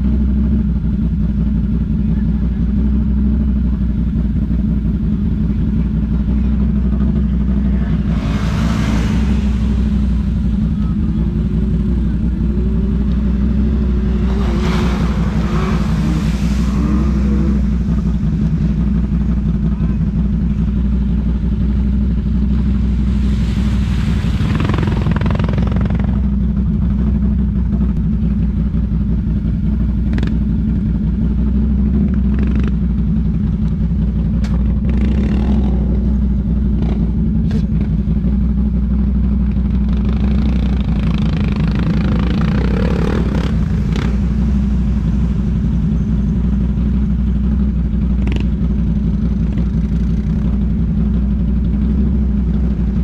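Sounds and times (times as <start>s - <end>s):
atv engine idling: 0.0s - 53.0s
atv engines in mud: 0.0s - 53.0s.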